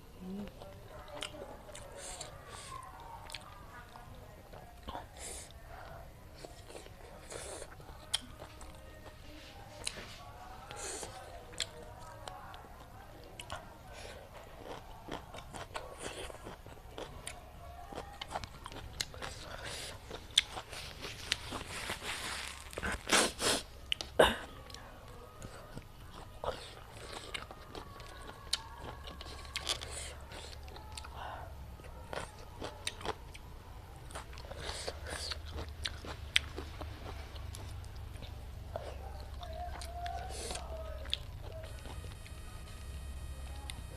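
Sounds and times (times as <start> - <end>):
chewing and biting: 0.6 - 24.8, 25.4 - 31.2, 31.9 - 42.8.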